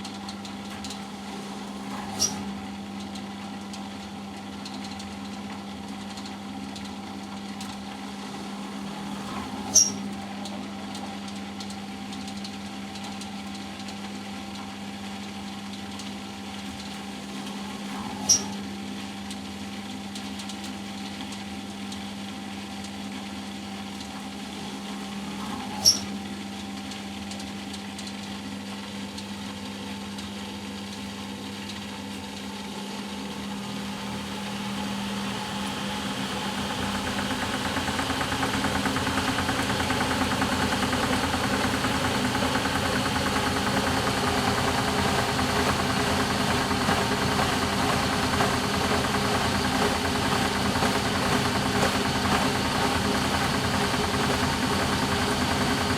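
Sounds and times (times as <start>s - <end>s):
washing machine motor hum: 0.0s - 55.9s.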